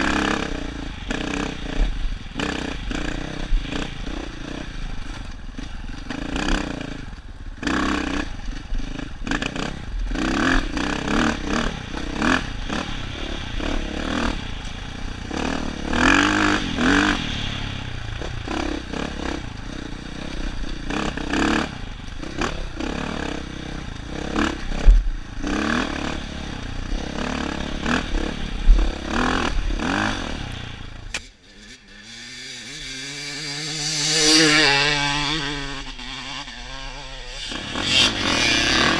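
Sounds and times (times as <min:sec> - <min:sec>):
dirt bike engine revving: 0:00.0 - 0:38.9
dirt bike engine running: 0:00.0 - 0:38.9.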